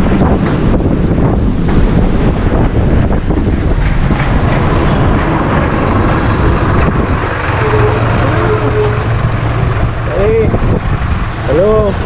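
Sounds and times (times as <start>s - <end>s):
road traffic: 0.0s - 12.0s
vehicle engine humming: 0.0s - 12.0s
wind buffeting microphone: 0.0s - 12.0s.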